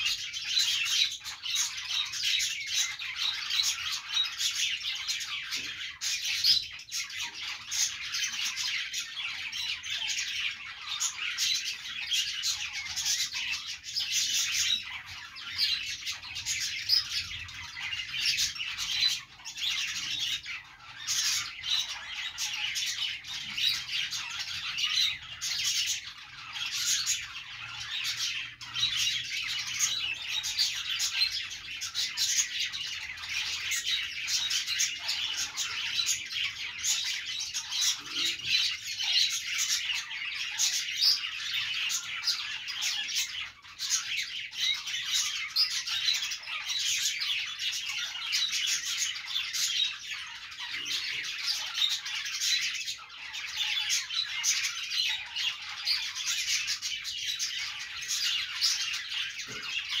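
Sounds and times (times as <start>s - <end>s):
budgerigars chattering: 0.0s - 60.0s.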